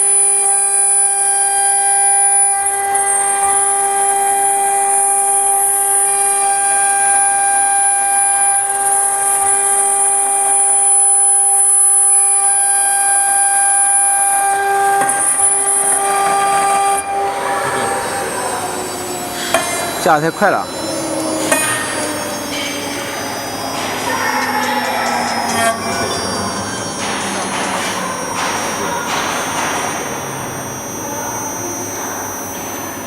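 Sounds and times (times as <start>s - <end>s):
router spindle whine: 0.0s - 33.0s.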